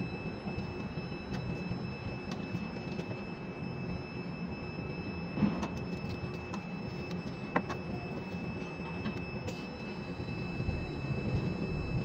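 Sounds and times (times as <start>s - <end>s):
crane machinery rumble and hum: 0.0s - 12.0s.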